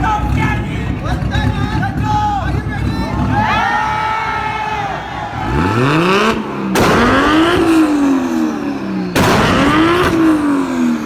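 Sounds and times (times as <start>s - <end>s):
car engine revving hard: 0.0s - 11.0s
sharp exhaust bangs: 0.0s - 11.0s.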